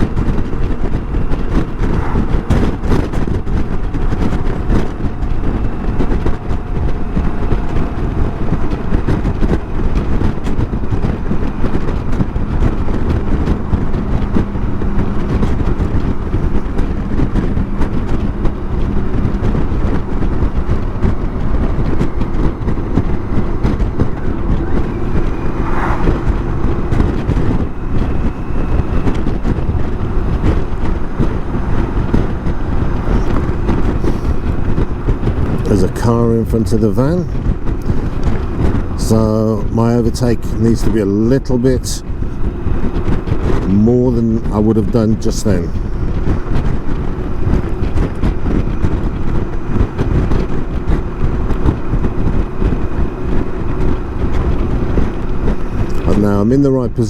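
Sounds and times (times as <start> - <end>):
motorcycle engine humming: 0.0 - 57.0
wind on microphone: 0.0 - 57.0.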